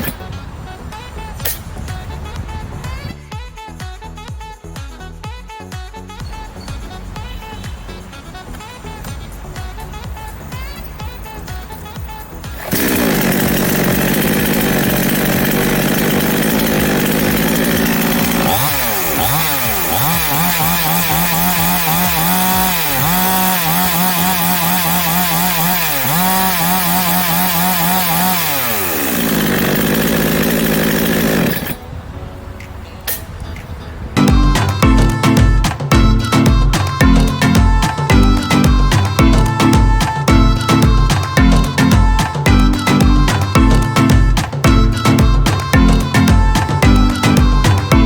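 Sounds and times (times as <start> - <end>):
chainsaw running at high revs: 6.9 - 31.8, 34.2 - 48.0.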